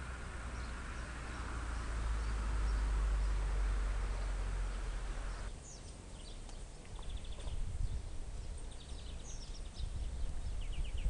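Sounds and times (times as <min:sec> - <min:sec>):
birds giving thin high calls: 0:00.0 - 0:11.0
wind rumble on microphone: 0:00.0 - 0:11.0.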